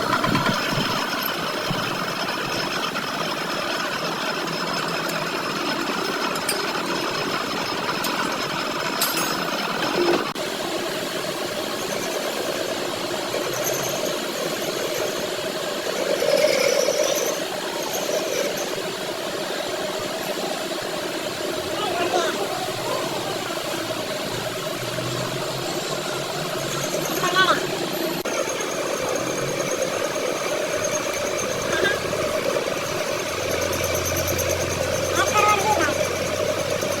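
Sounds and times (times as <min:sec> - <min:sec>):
machine running: 0:00.0 - 0:37.0.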